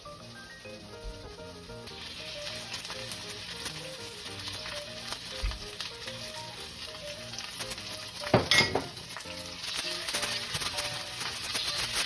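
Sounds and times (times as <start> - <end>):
background music: 0.0 - 12.0
vegetables sizzling in hot oil: 0.0 - 12.0.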